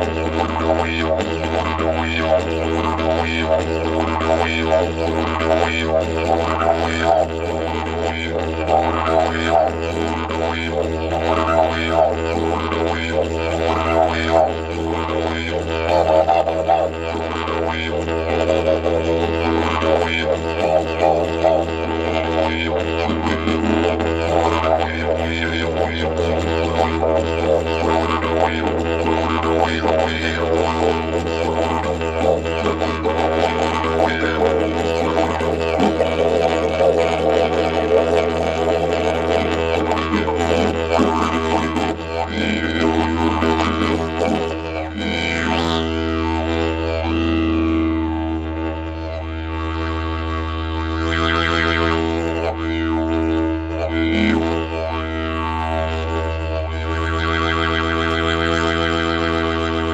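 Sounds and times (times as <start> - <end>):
didgeridoo drone: 0.0 - 59.9.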